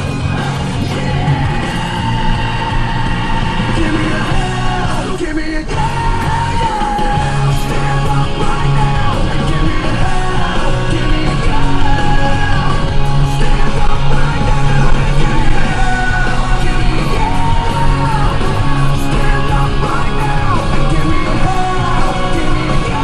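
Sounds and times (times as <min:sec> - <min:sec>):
rock music: 0:00.0 - 0:23.0
sung and shouted vocals: 0:00.0 - 0:23.0.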